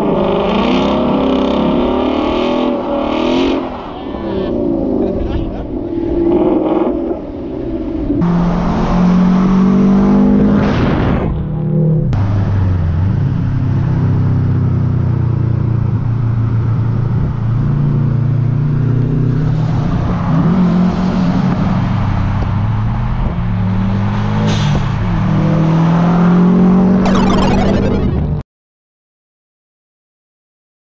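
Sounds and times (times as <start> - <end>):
cars driving at highway speed: 0.0 - 28.4.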